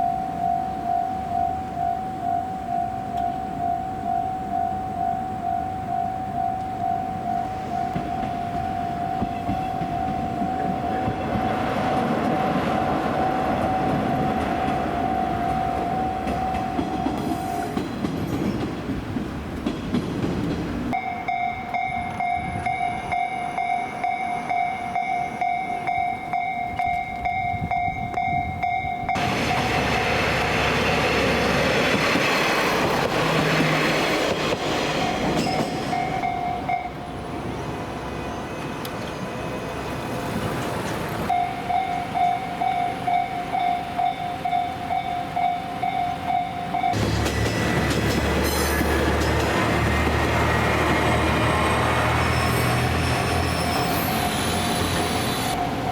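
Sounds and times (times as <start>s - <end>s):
level crossing warning bell: 0.0s - 17.8s, 20.9s - 31.3s, 35.0s - 40.0s, 41.3s - 55.9s
trains rumbling and clattering: 0.0s - 55.9s.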